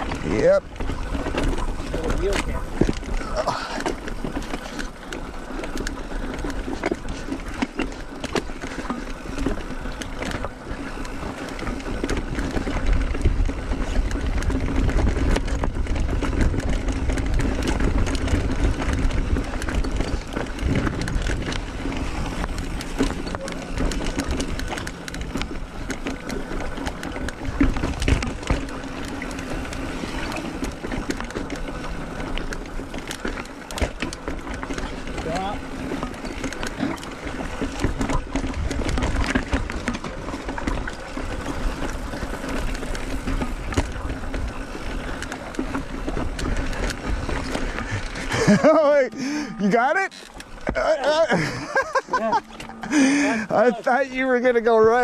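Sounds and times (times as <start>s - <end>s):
wind rumble on microphone: 0.0s - 49.5s
bike clicking and rattling: 0.0s - 55.0s
bike tyres rolling over rock: 0.0s - 55.0s.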